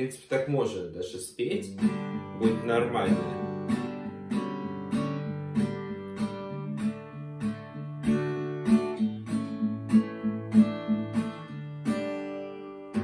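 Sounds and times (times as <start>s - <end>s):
acoustic guitar strumming chords: 1.5s - 13.0s.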